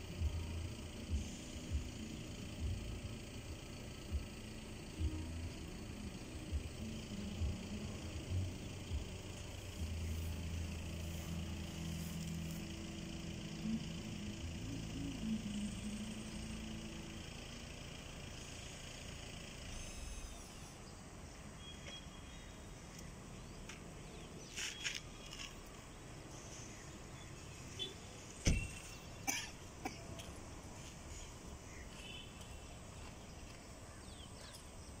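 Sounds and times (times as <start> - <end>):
faint outdoor background noise: 0.0 - 35.0.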